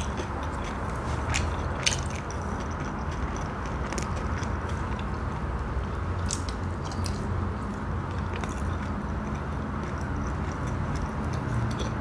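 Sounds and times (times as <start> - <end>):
person chewing fried snack: 0.0 - 12.0.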